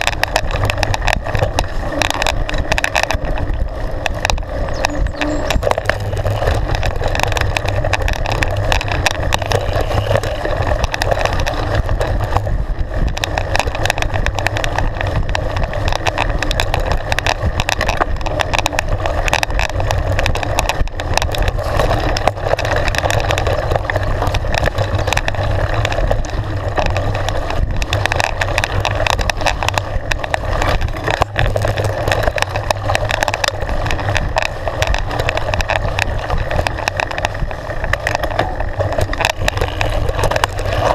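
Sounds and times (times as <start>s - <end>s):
bike knocking and rattling: 0.0s - 40.9s
wind and tyres rumbling: 0.0s - 40.9s.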